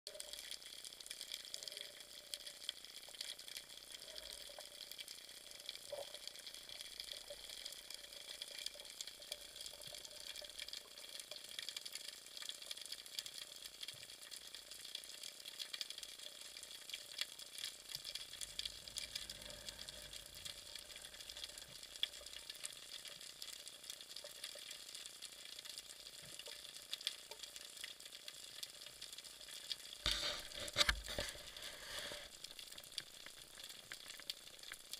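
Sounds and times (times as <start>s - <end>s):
underwater crackle of tiny clicks: 0.1s - 34.9s.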